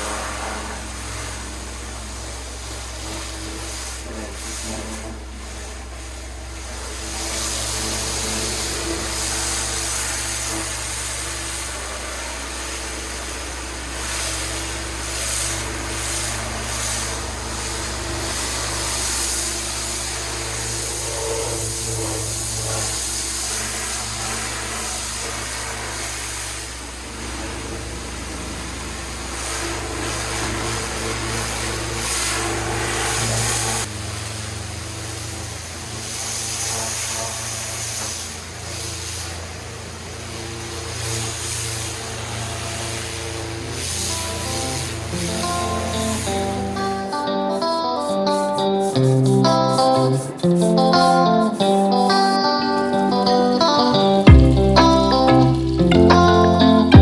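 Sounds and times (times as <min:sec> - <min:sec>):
water jet hissing on stone: 0:00.0 - 0:54.0
pressure washer engine hum: 0:00.0 - 0:57.0.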